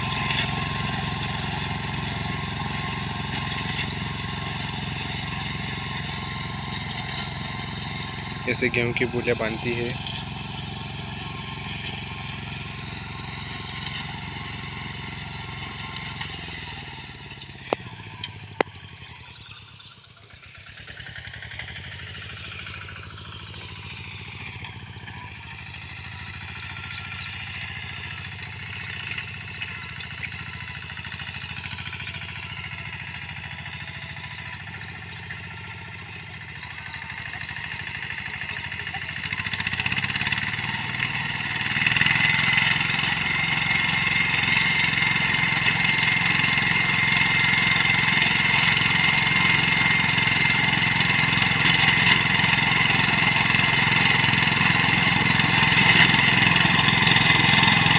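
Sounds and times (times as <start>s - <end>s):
small engine running: 0.0s - 57.9s.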